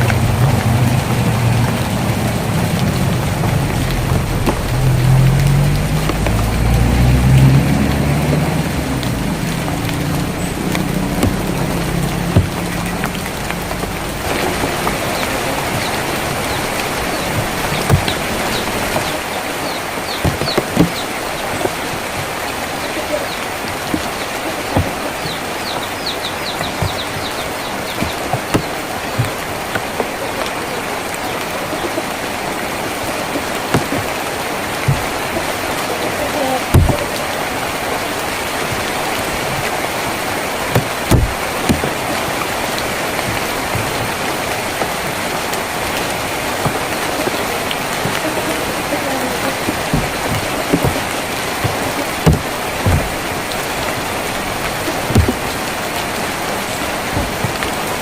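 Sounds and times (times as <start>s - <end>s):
heavy drops knocking: 0.0s - 30.5s, 32.9s - 35.9s, 36.6s - 58.0s
rain on a tin roof: 0.0s - 58.0s.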